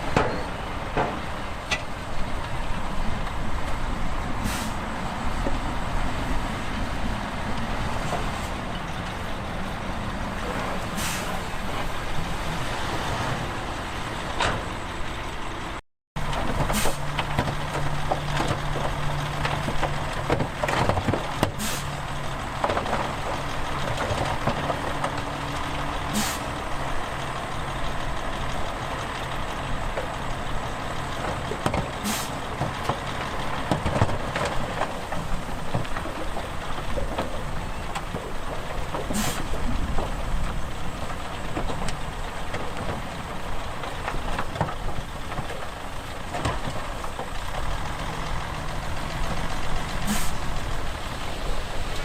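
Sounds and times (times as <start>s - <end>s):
heavy diesel machinery engines: 0.0s - 52.0s.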